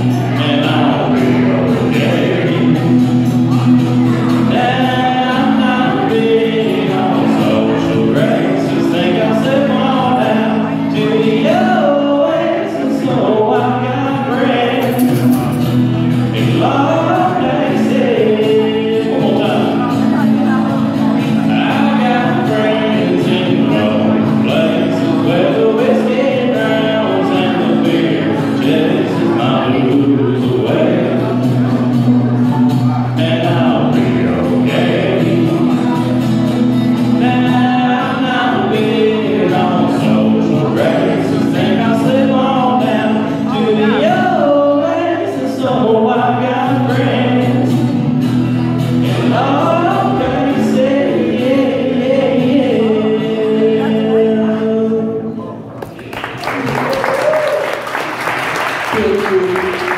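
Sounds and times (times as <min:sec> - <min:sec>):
man singing country song: 0:00.0 - 0:55.7, 0:58.6 - 0:59.9
strummed acoustic guitar: 0:00.0 - 0:56.0.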